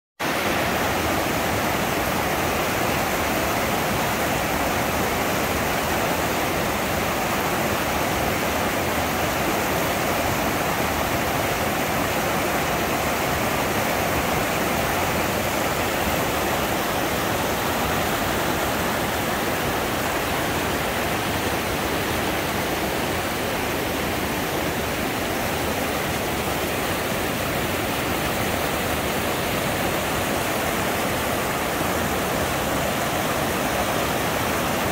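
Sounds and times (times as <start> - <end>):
whitewater rushing over rocks: 0.2 - 34.9.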